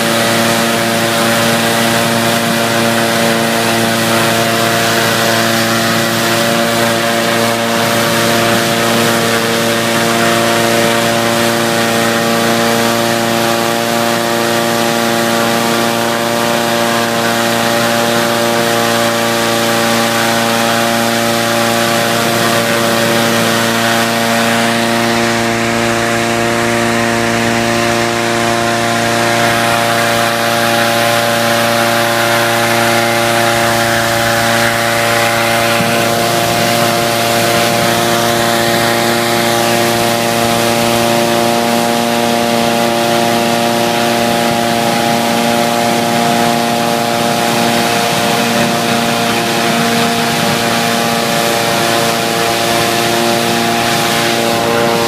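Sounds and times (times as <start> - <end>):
engine-driven fan running: 0.0 - 55.0
propane burner firing: 0.0 - 55.0.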